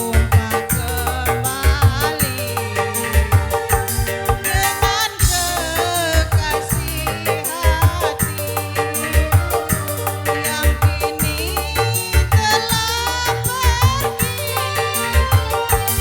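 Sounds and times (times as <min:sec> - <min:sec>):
bending keyboard melody: 0:00.0 - 0:16.0
hand drum pattern: 0:00.0 - 0:16.0
shaker: 0:00.0 - 0:16.0.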